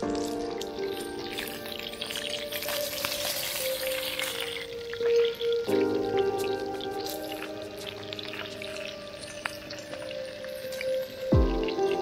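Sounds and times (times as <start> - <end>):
background music with held notes: 0.0 - 12.0
fish sizzling in oil: 0.0 - 12.0.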